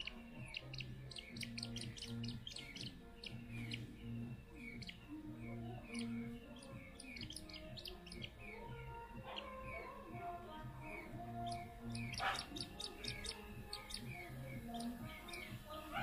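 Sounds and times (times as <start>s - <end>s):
chicks cheeping: 0.0s - 16.0s.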